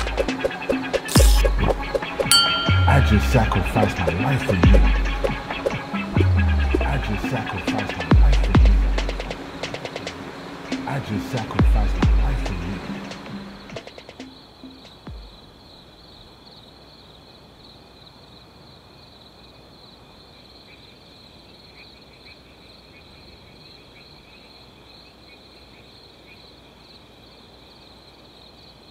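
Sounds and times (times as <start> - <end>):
insects chirping: 0.0 - 28.9.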